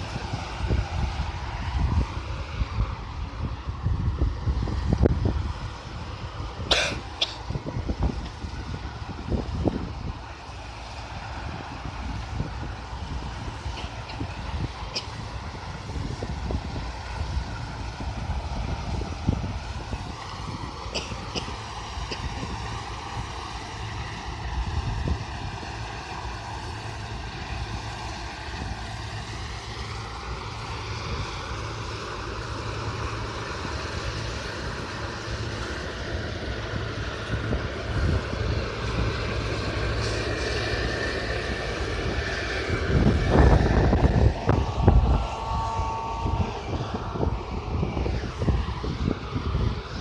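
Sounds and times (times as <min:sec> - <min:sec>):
combine harvester engine drone: 0:00.0 - 0:50.0
wind buffeting microphone: 0:00.0 - 0:50.0.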